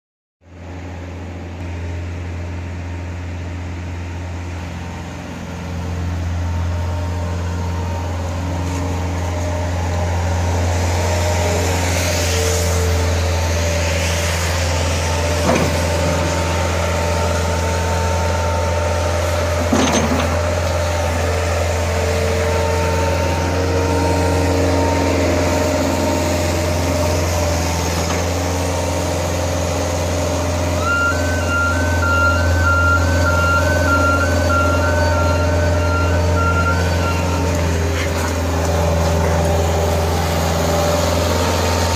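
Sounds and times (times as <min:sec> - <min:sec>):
diesel loader engine running: 0:00.5 - 0:41.9.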